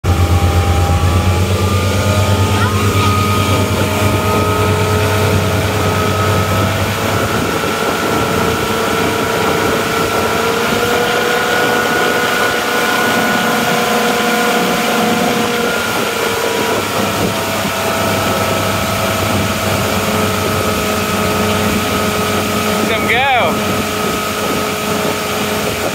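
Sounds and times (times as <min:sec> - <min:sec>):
motorboat engine running: 0:00.0 - 0:25.9
wake water rushing: 0:00.0 - 0:25.9
wind: 0:00.0 - 0:25.9.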